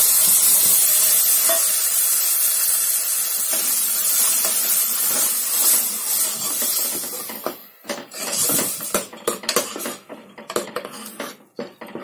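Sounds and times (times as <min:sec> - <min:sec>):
paste sizzling in hot oil: 0:00.0 - 0:09.9.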